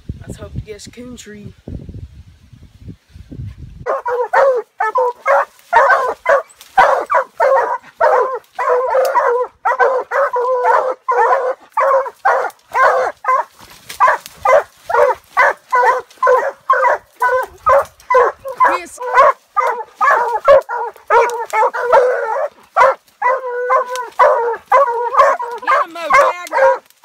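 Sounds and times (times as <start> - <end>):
dogs barking: 3.8 - 26.9.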